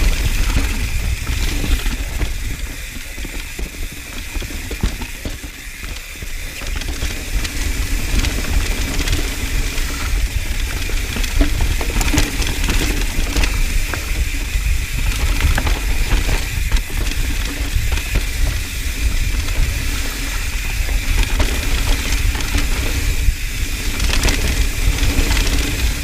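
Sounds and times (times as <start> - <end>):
bike clicks and rattles: 0.0 - 26.0
wind and tyre rumble on microphone: 0.0 - 26.0.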